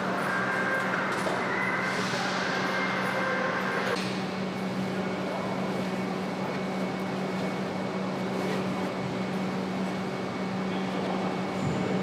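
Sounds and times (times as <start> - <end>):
factory machinery hum and hiss: 0.0 - 12.0.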